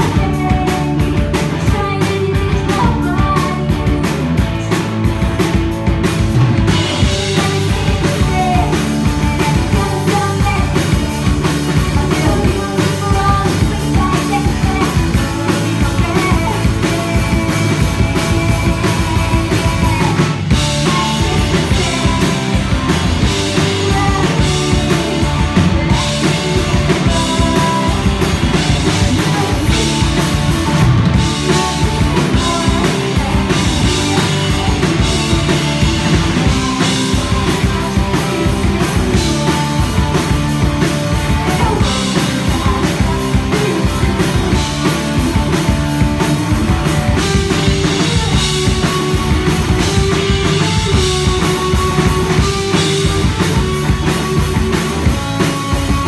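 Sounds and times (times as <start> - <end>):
drum kit: 0.0 - 56.0
live rock band playing: 0.0 - 56.0.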